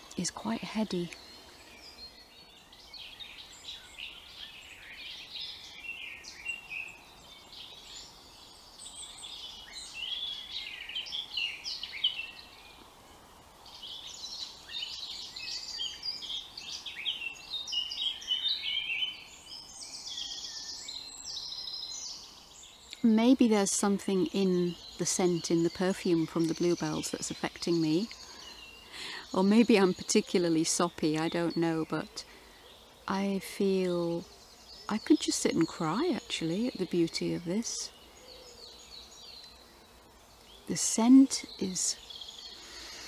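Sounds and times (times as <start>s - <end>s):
birds singing: 0.0s - 43.0s
faint outdoor hush: 0.0s - 43.0s.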